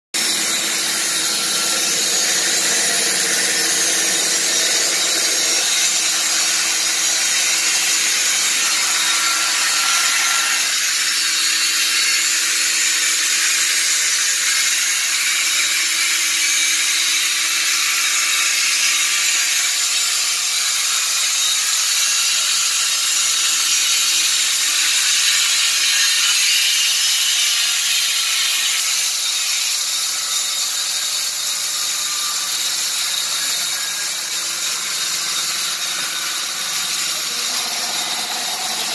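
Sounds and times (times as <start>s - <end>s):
saw blade cutting wood: 0.2s - 38.9s.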